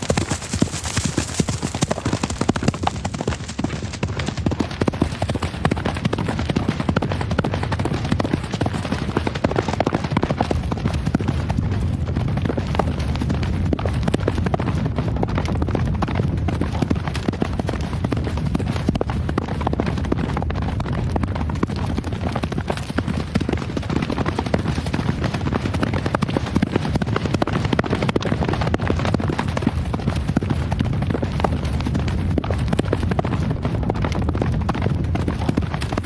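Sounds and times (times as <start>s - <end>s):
horse hooves galloping: 0.0s - 36.0s.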